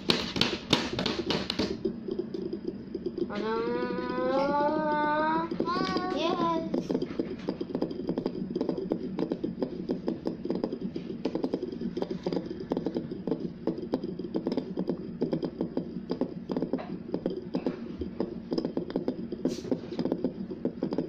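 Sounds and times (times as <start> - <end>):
toy spinner rattling: 1.7 - 21.0.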